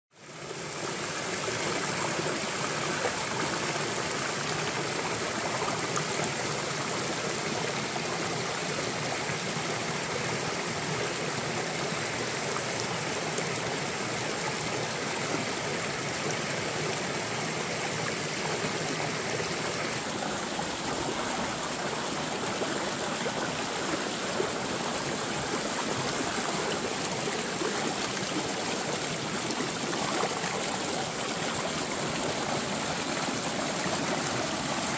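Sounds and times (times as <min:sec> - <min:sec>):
stream running over rocks: 0:00.2 - 0:34.9.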